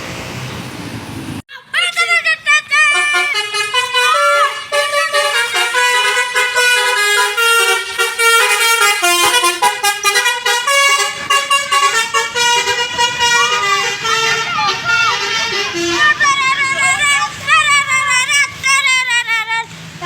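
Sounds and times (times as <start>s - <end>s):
multi-tone bus horn tune: 1.8s - 20.0s.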